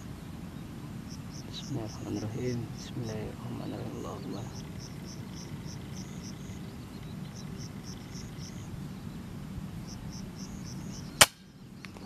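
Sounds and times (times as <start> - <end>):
insect chirping: 0.0 - 12.0
low background rumble: 0.0 - 12.0.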